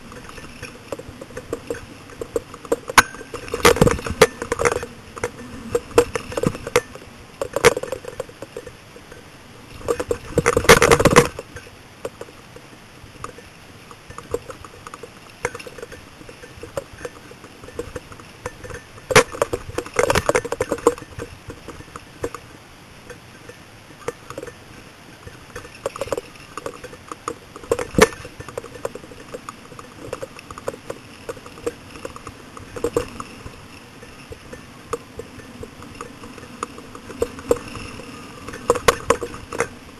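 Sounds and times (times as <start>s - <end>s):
bike jolts: 0.0s - 39.9s
mountain bike rattling: 0.0s - 39.9s.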